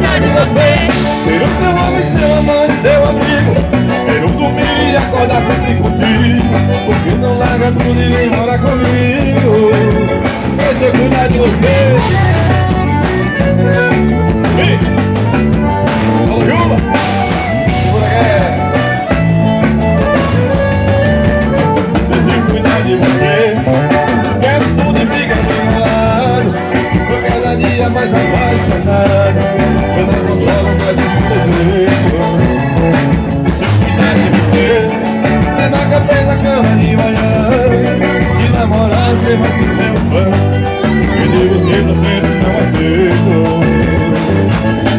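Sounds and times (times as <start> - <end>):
accordion: 0.0 - 44.9
live band playing: 0.0 - 44.9.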